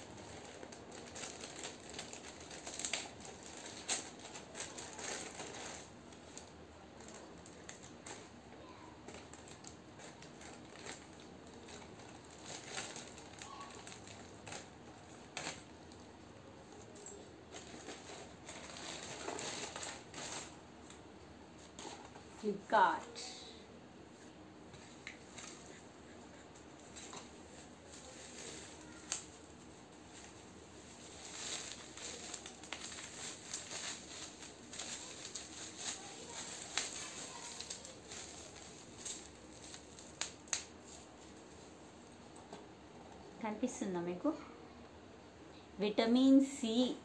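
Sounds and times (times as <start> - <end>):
plastic bag crinkling: 0.0 - 23.0, 24.6 - 42.4.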